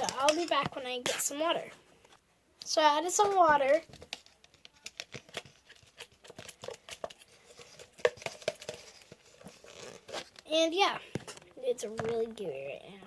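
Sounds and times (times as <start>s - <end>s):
slime stirred with spoon: 0.0s - 12.4s.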